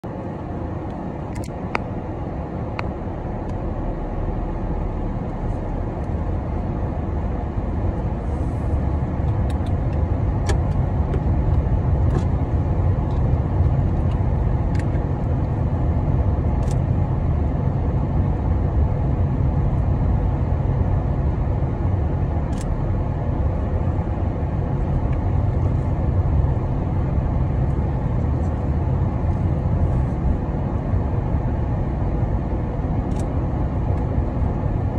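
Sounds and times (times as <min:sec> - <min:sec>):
car cabin engine and tyre rumble: 0:00.0 - 0:34.9.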